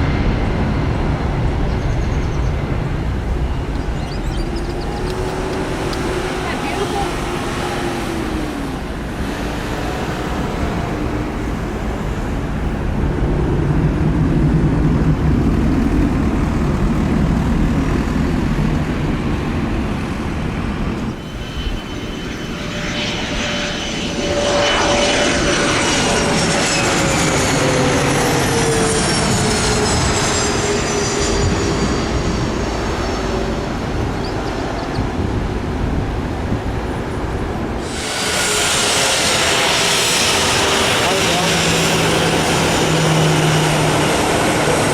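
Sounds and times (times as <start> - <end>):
jet aircraft engines roaring: 0.0 - 44.9.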